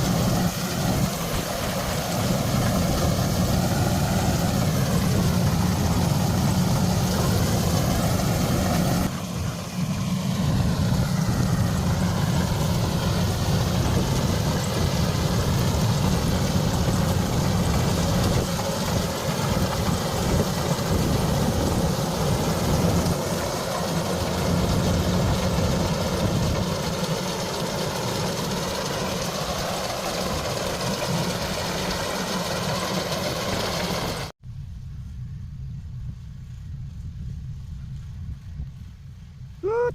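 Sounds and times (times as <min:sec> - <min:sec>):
diesel engine idling: 0:00.0 - 0:34.3.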